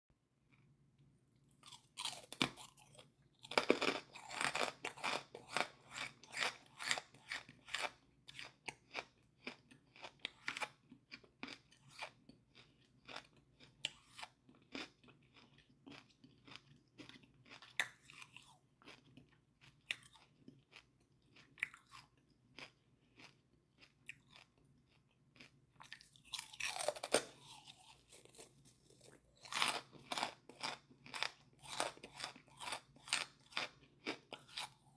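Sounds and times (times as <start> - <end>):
crunching and chewing charcoal: 1.5 - 34.9.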